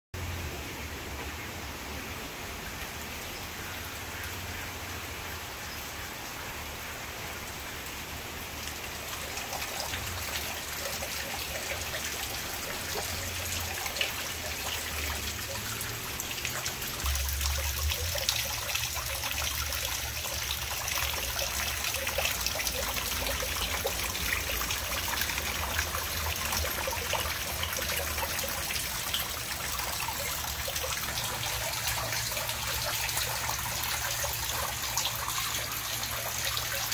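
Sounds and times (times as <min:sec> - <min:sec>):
fountain water trickling and splashing: 0:00.2 - 0:36.9.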